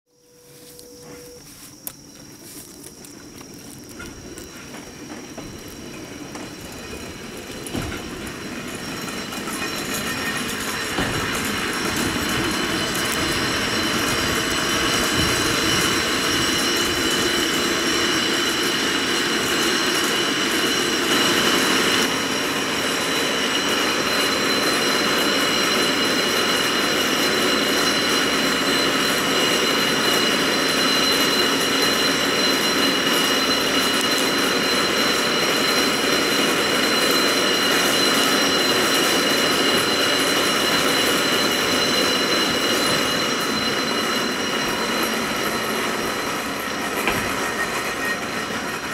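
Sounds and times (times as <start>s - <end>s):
rumble and whir of cable car: 2.2s - 48.9s.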